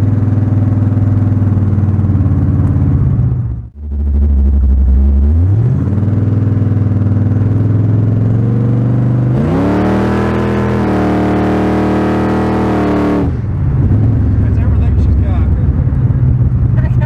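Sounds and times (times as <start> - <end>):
car engine running loudly: 0.0 - 17.0.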